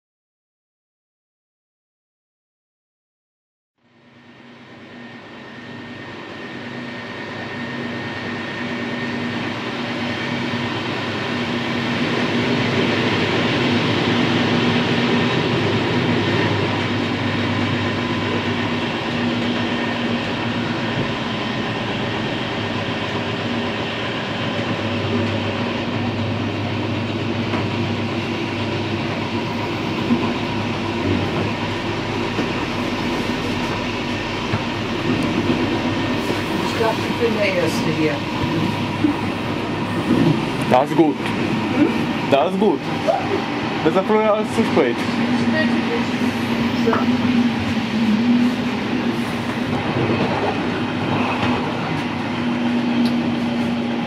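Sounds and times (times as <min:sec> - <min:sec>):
train wheels rumbling on rails: 0:05.4 - 0:54.0.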